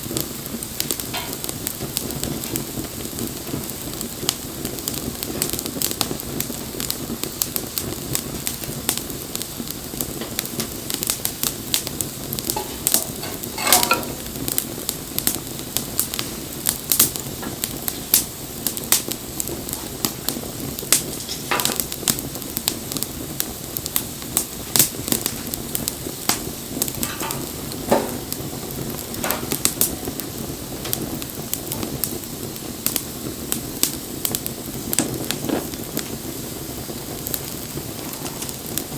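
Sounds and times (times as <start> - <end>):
fire crackling and popping: 0.0 - 38.9
fire hissing: 0.0 - 38.9
wood fire burning: 0.0 - 38.9.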